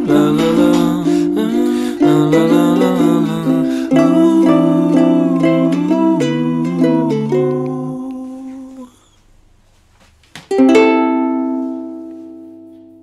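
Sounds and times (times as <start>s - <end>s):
ukulele strummed chord: 0.0s - 8.1s, 10.5s - 13.0s
ukulele plucked notes: 0.0s - 8.7s, 10.5s - 13.0s.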